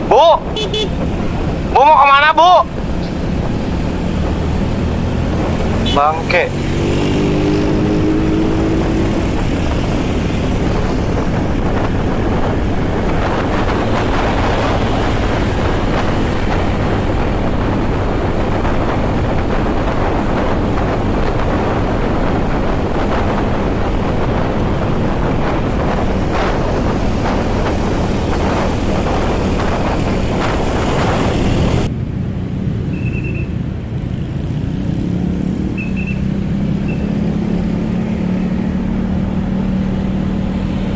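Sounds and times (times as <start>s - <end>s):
wind rush over microphone: 0.0s - 40.9s.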